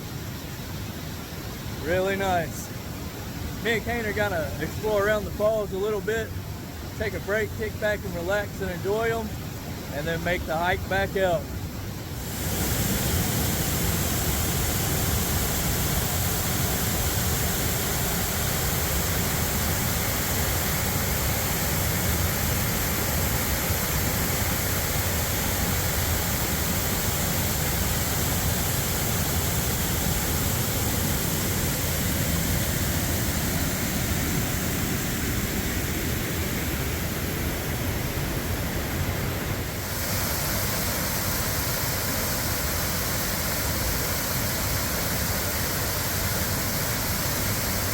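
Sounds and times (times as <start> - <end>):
waterfall rushing: 1.1 - 47.9.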